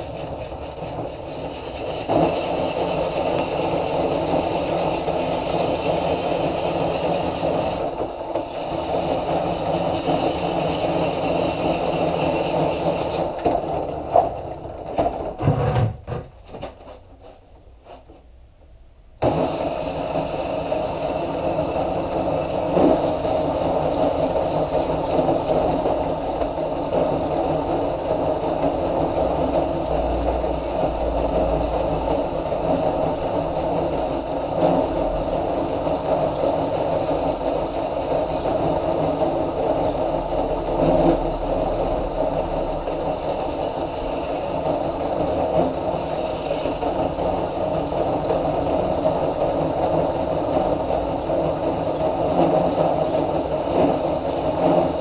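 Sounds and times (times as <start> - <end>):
electric motor and wheel spinning: 0.0 - 15.8, 19.2 - 55.0.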